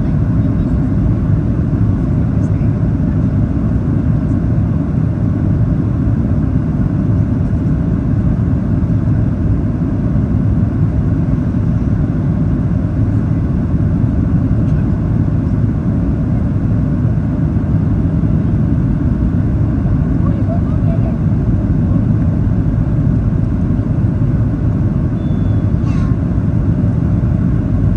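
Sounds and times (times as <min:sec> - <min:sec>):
airplane cabin rumble: 0:00.0 - 0:27.9.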